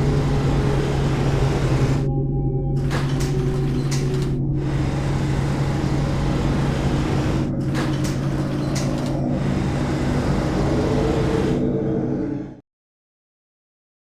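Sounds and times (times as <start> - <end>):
low engine-like hum: 0.0 - 12.6.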